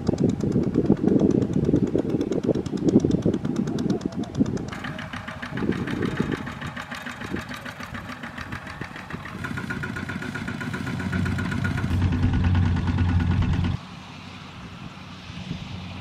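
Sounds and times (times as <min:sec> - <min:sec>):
tractor diesel engine under load: 0:00.0 - 0:14.5.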